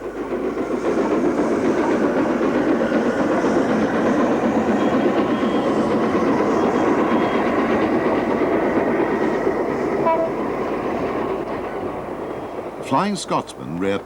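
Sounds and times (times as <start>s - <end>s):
steam locomotive running: 0.0s - 14.0s.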